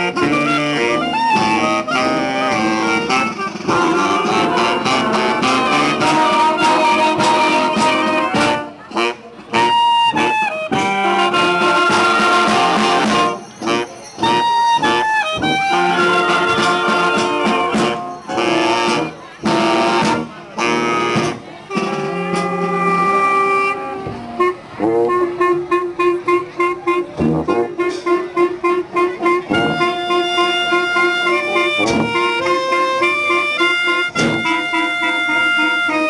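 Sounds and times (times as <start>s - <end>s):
brass band playing: 0.0s - 36.0s.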